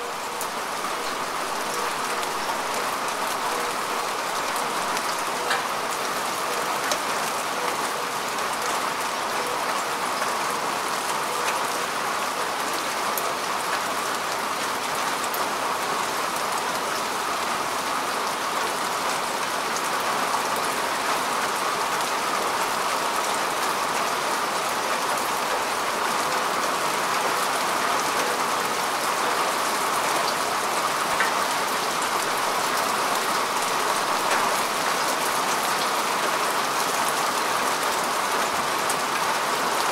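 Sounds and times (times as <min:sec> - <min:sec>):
rain falling on grass: 0:00.0 - 0:39.9.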